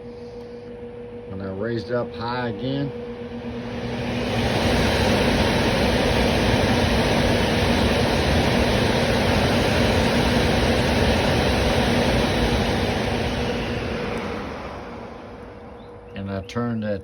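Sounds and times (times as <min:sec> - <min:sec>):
blower fan rushing air: 0:00.0 - 0:17.0
low motor hum: 0:00.0 - 0:17.0.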